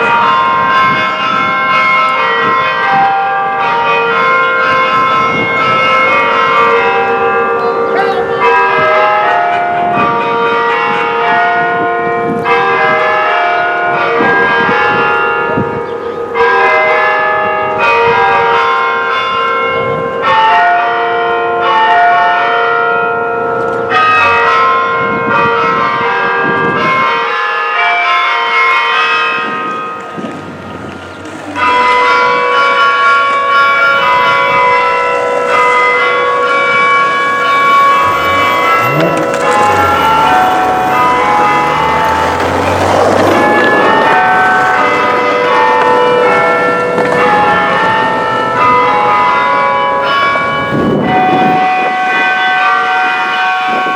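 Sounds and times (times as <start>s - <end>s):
tower bells chiming: 0.0s - 53.9s.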